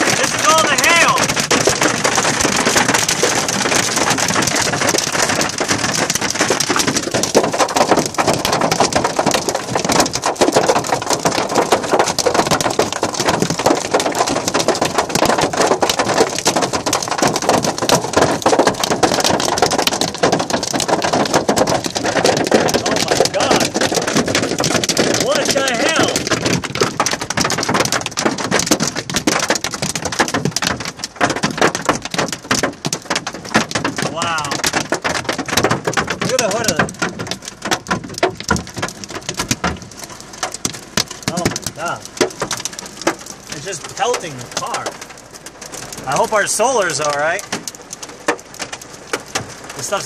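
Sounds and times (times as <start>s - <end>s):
hail and rain pelting a car: 0.0s - 50.0s.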